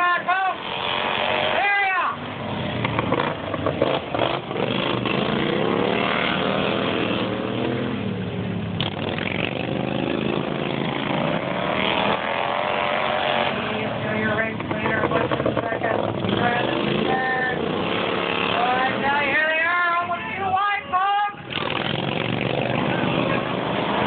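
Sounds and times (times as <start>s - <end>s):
racing lawnmower engines: 0.0s - 24.0s.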